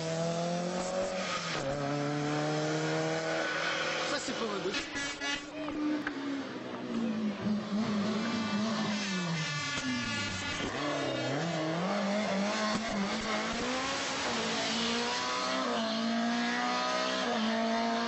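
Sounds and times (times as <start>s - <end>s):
car engine at high revs: 0.0s - 18.0s.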